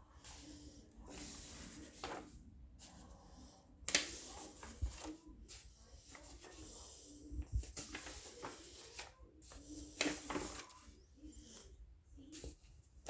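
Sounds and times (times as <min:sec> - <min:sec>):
paper pages rustling: 0:00.2 - 0:12.7.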